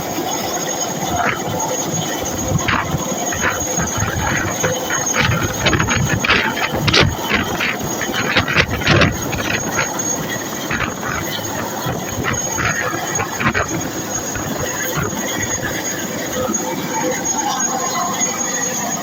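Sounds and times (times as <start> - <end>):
helicopter running: 0.0 - 19.0.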